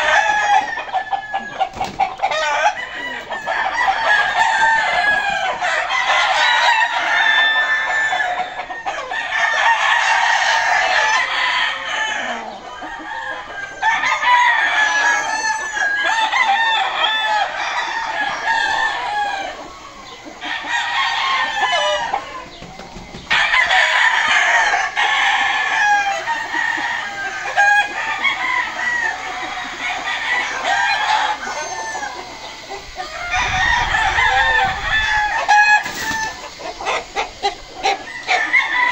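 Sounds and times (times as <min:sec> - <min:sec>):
roosters clucking: 0:00.0 - 0:38.9
roosters crowing: 0:00.0 - 0:38.9.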